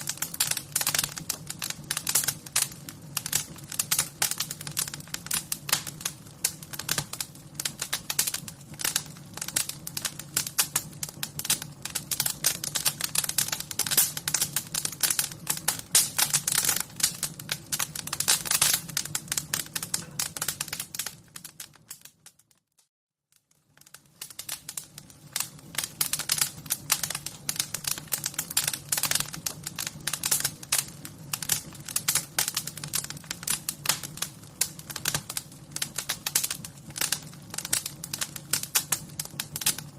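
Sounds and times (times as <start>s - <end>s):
wood fire crackling: 0.0s - 22.6s, 23.3s - 39.9s.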